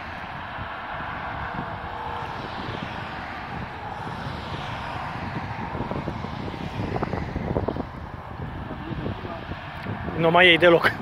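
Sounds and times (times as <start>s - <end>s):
vehicle passing: 0.0s - 11.0s
wind rumble on microphone: 0.0s - 11.0s.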